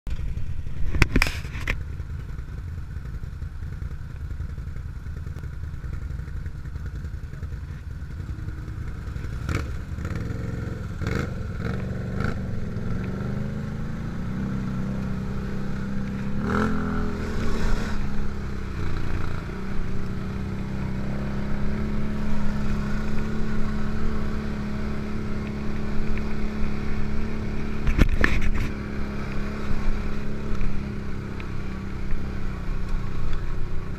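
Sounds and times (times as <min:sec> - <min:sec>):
quad bike engine running: 0:00.1 - 0:33.9.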